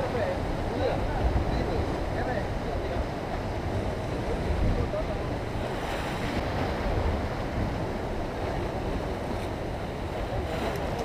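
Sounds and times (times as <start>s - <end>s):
sea surf breaking on rocks: 0.0s - 11.0s
wind buffeting microphone: 0.0s - 11.0s.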